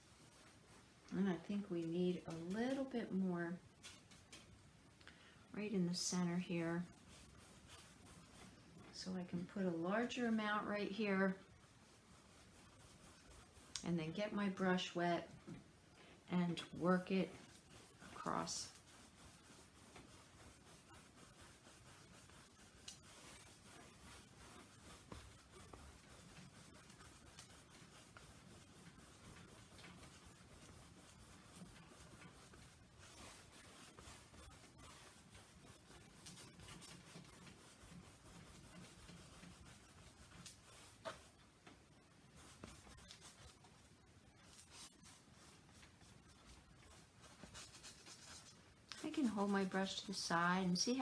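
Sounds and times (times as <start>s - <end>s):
paintbrush rubbing on canvas: 0.0s - 3.3s, 5.6s - 15.4s, 16.4s - 51.0s.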